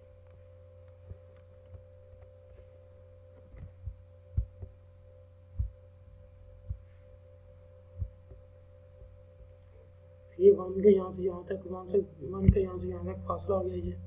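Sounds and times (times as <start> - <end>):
electrical hum: 0.0 - 14.0
faint steady tone: 0.0 - 14.0.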